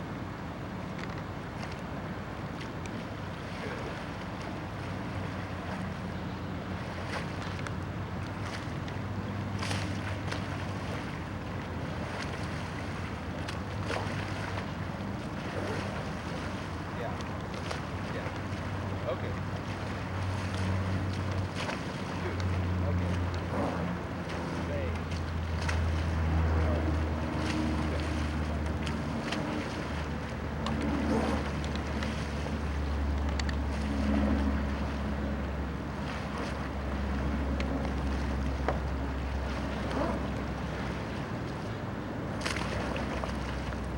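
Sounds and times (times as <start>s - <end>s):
small waves washing: 0.0s - 43.9s
water splashes: 0.0s - 43.9s.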